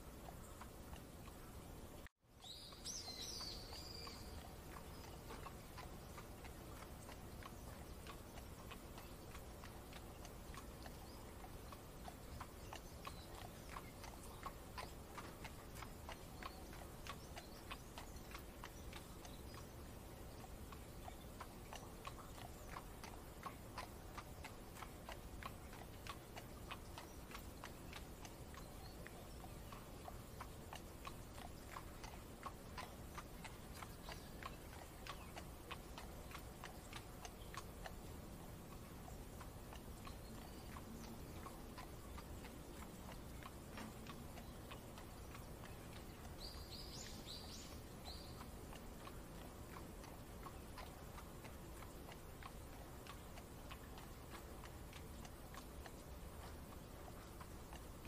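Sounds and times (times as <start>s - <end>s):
horse hooves clip-clopping: 0.0s - 58.0s.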